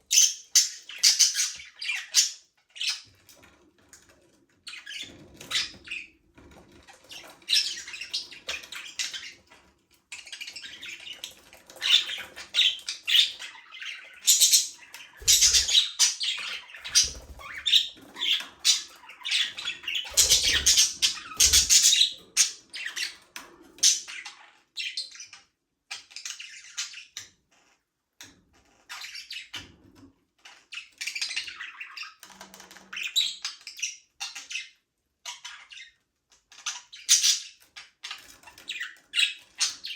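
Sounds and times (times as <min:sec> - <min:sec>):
budgerigars chirping and squawking: 0:00.1 - 0:03.3, 0:04.7 - 0:27.7, 0:28.6 - 0:39.9.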